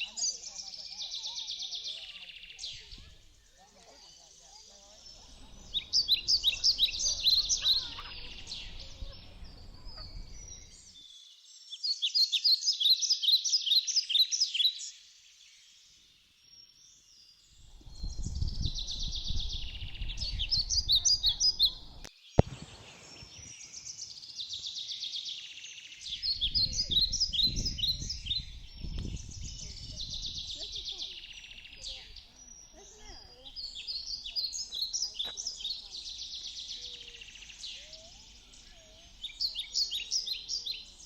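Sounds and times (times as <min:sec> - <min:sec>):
songbird singing: 0:00.0 - 0:41.0.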